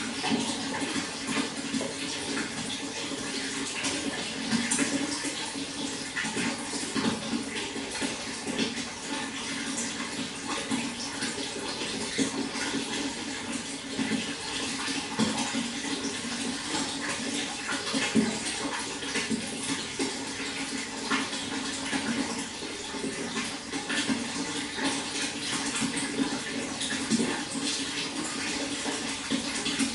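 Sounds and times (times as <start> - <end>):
running water splashing: 0.0 - 29.9.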